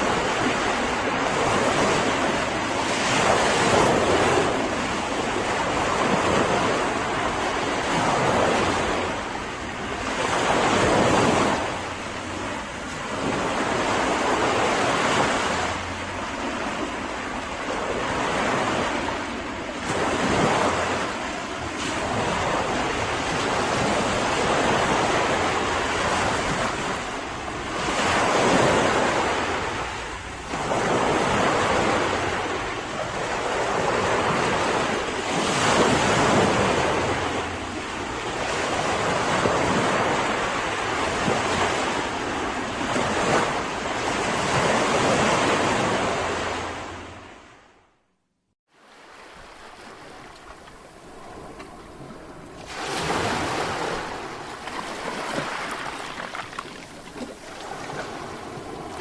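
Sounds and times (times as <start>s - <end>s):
sea waves breaking on a beach: 0.0s - 47.9s, 48.7s - 59.0s.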